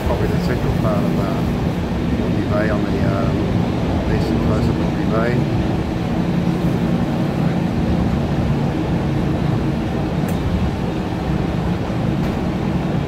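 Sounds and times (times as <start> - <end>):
train carriage rumbling on track: 0.0 - 13.0.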